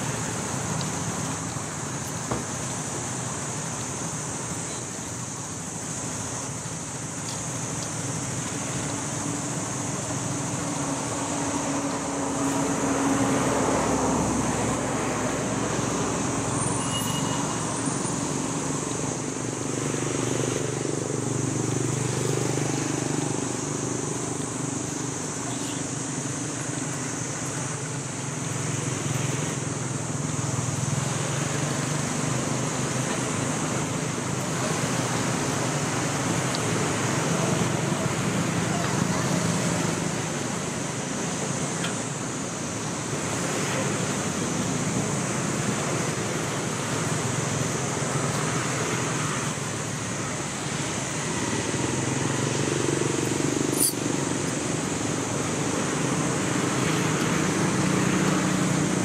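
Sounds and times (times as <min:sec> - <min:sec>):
high-pitched hiss: 0:00.0 - 0:59.0
road traffic hum: 0:00.0 - 0:59.0.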